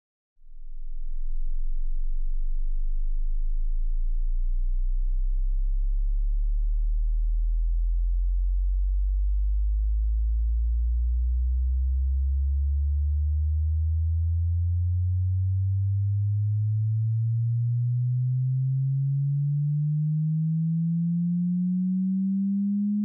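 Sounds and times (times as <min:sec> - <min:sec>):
rising sine test tone: 0:00.4 - 0:23.0.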